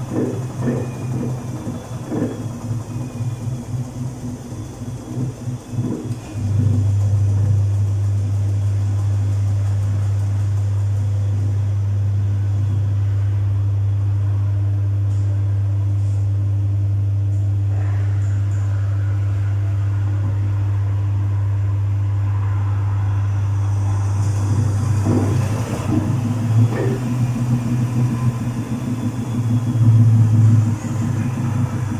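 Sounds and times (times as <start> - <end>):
washing machine motor hum: 0.0 - 31.9.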